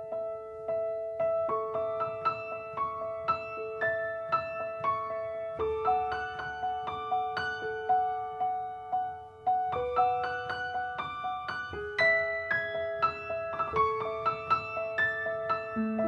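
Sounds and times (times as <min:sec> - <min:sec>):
light piano melody: 0:00.0 - 0:16.0.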